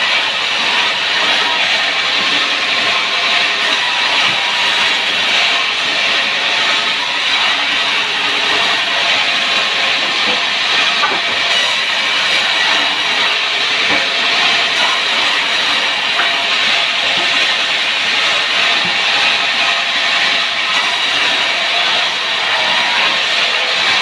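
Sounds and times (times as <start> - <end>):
power saw cutting wood: 0.0 - 24.0.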